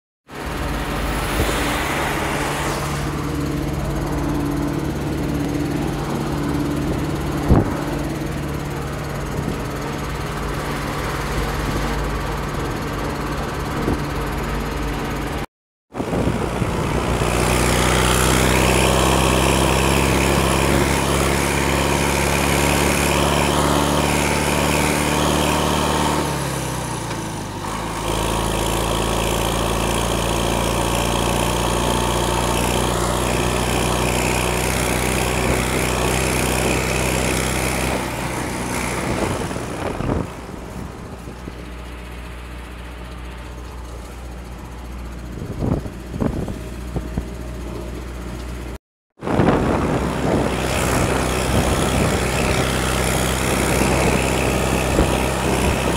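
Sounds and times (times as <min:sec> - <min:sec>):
diesel engine running: 0:00.3 - 0:55.9.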